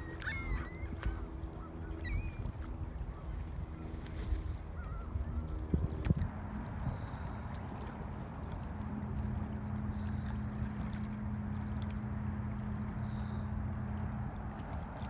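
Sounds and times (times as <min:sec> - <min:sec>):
low engine hum: 0:00.0 - 0:15.0
water at lakeshore: 0:00.0 - 0:15.0
wind: 0:00.0 - 0:15.0.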